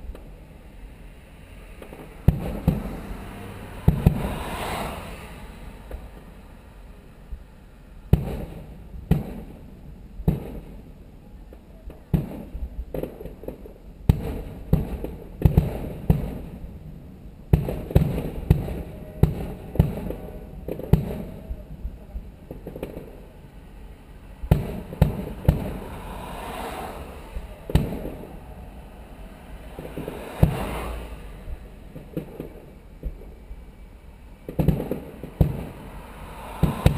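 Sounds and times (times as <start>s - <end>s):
firework crackling: 0.0s - 36.9s
firework shells booming: 1.8s - 6.4s, 8.0s - 10.9s, 11.5s - 33.5s, 34.4s - 36.9s.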